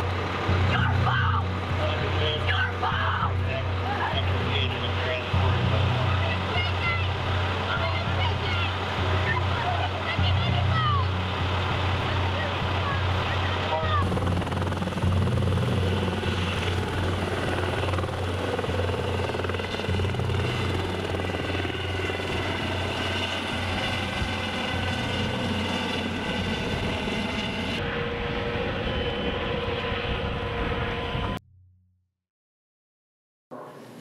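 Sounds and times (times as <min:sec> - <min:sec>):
helicopter rotor pulsing: 0:00.0 - 0:31.4.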